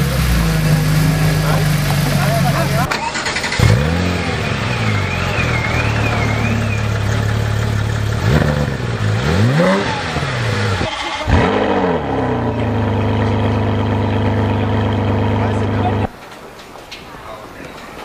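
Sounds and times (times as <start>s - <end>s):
engine starting with rev flare: 0.0s - 16.1s
sports car engine idling and revving: 0.0s - 16.1s.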